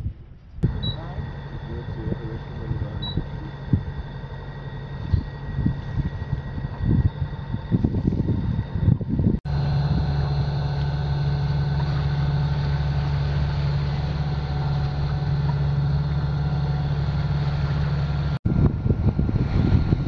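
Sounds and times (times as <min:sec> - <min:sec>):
diesel engine droning: 0:00.6 - 0:20.0.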